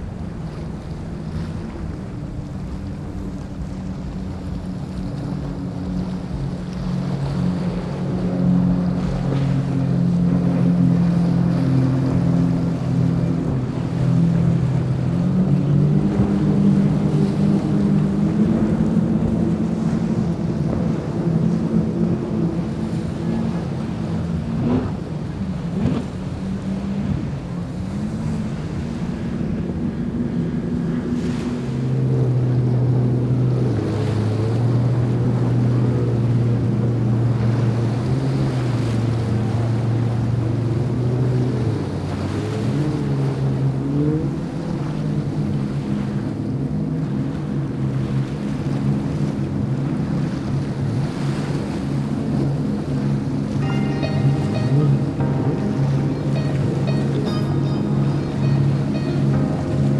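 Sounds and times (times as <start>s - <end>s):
deep engine hum: 0.0s - 59.9s
outboard motors droning: 0.0s - 59.9s
water and spray rushing: 0.0s - 59.9s.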